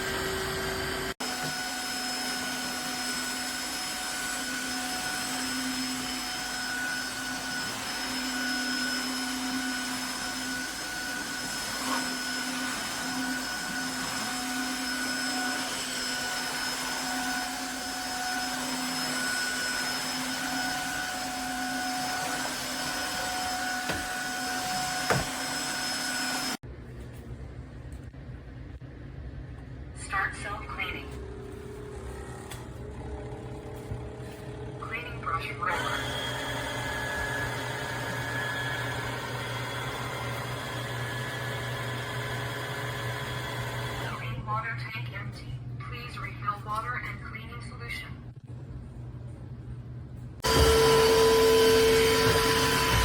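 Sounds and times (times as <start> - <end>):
floor cleaner motor whining: 0.0 - 26.6, 31.1 - 44.3, 50.4 - 53.0.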